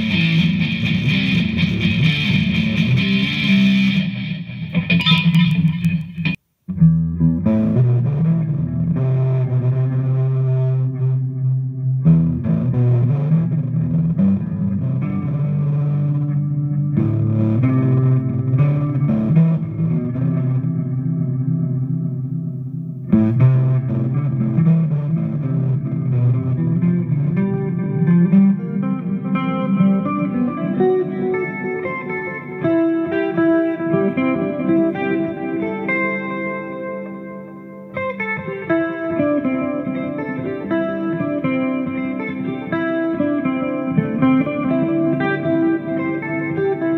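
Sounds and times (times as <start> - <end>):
electric guitar chords with reverb: 0.0 - 46.9.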